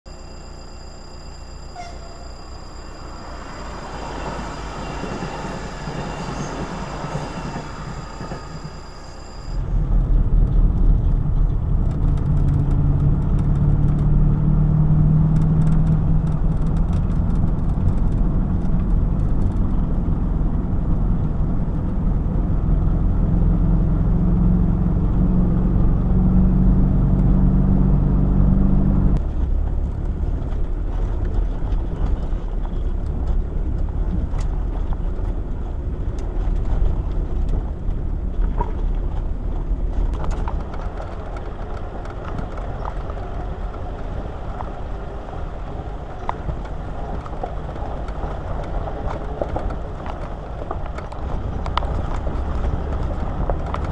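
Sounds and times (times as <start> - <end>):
road noise: 0.1 - 53.9
van engine drone: 0.1 - 53.9.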